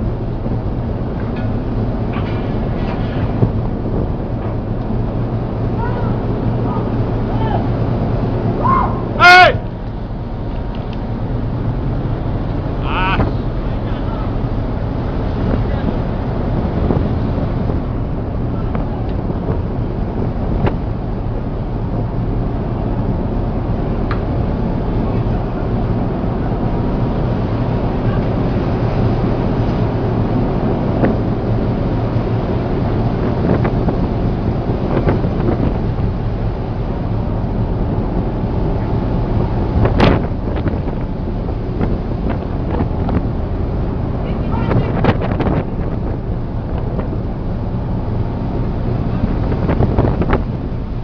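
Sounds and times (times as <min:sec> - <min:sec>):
boat engine running: 0:00.0 - 0:51.0
wind noise on microphone: 0:00.0 - 0:51.0.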